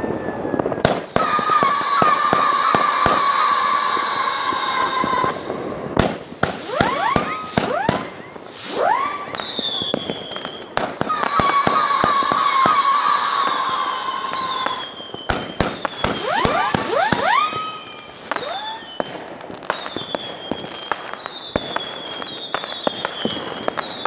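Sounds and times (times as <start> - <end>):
firework whistles: 0.0 - 24.0
firework cracks: 0.2 - 24.0.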